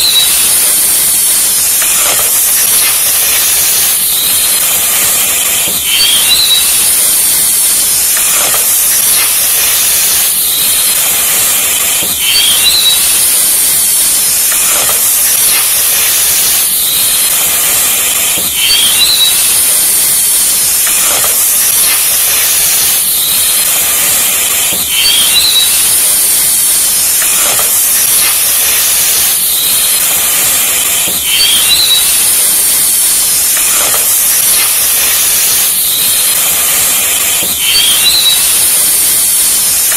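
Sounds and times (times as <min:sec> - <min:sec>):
faint chirp: 0:00.0 - 0:39.9
loud steady hissing: 0:00.0 - 0:39.9.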